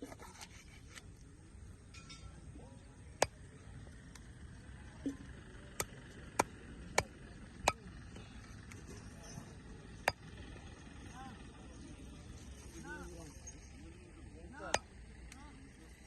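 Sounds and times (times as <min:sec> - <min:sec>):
low steady background: 0:00.0 - 0:16.0.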